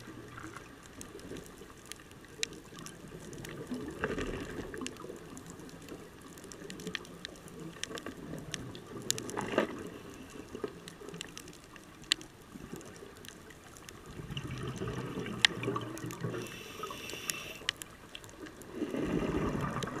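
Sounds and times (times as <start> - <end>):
muffled underwater wash: 0.0 - 20.0
sharp underwater clicks: 0.0 - 20.0.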